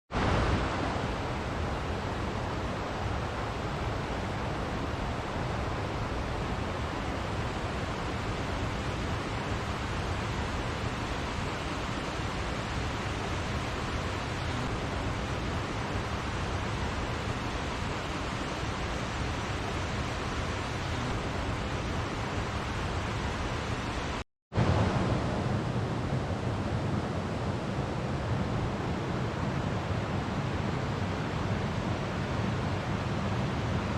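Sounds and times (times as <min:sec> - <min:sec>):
waterfall and river roar: 0:00.1 - 0:33.9.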